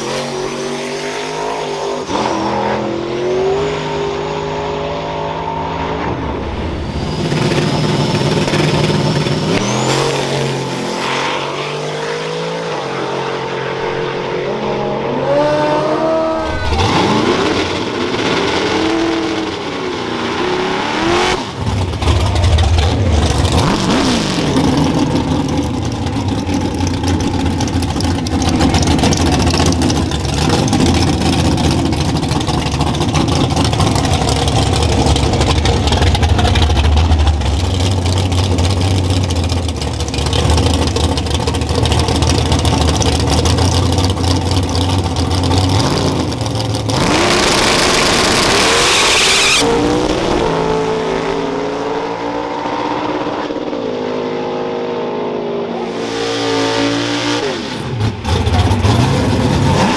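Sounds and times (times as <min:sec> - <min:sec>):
drag car engine revving: 0:00.0 - 0:59.9.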